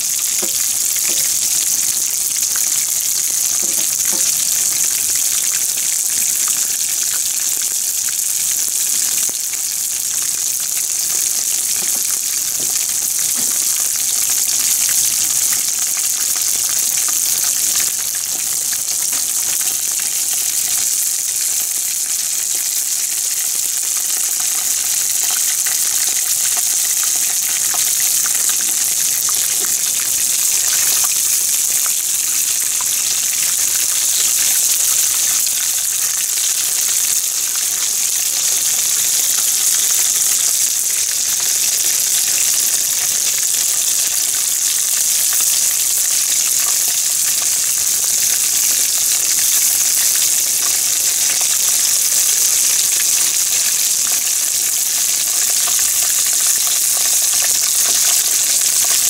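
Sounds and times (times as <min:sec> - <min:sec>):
food deep-frying in oil: 0:00.0 - 0:59.0.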